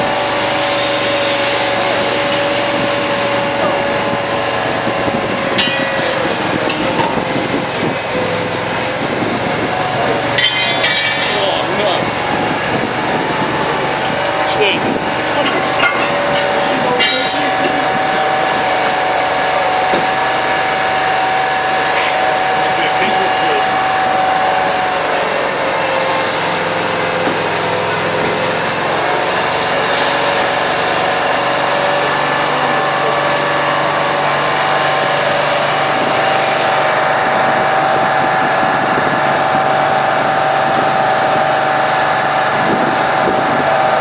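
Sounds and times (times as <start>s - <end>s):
low hum: 0.0s - 43.9s
steady high whine: 0.0s - 44.0s
vehicle engines running: 0.0s - 44.0s.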